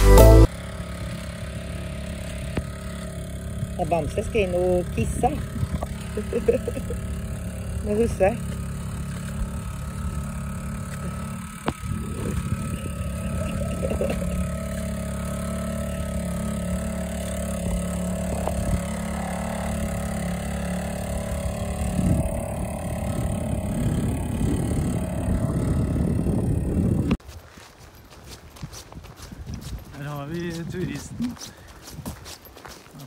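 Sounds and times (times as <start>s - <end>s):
outboard motor running: 0.0s - 27.2s.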